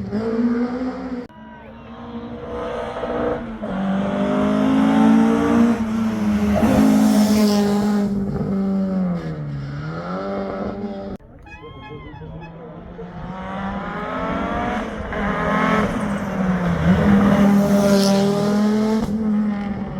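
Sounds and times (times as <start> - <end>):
rally car engine revving: 0.0 - 1.3, 1.9 - 11.2, 12.1 - 19.9.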